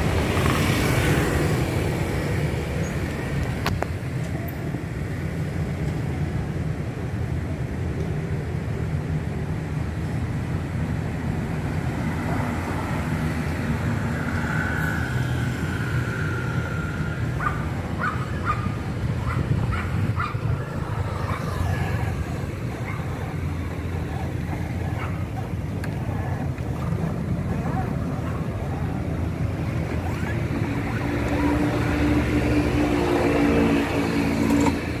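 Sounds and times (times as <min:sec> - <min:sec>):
traffic rumble of scooters and cars: 0:00.0 - 0:35.0.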